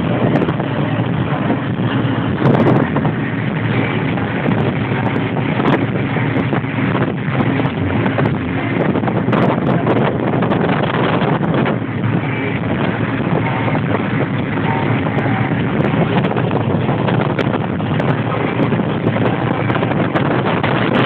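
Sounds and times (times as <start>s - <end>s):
diesel engine and road noise: 0.0s - 21.0s.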